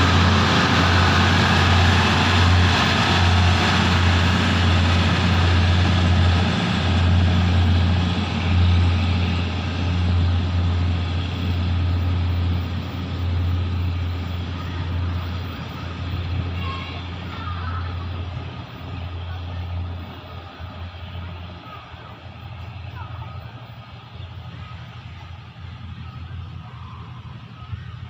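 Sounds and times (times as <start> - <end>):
diesel railcar engine drone: 0.0 - 28.0
train wheels on rails: 0.0 - 28.0.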